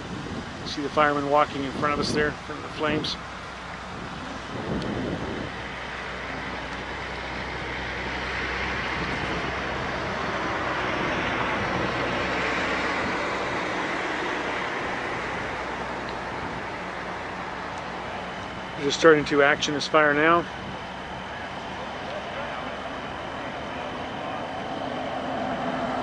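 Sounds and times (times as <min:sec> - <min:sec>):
steady low hum: 0:00.0 - 0:26.0
vehicle passing on highway: 0:00.0 - 0:26.0.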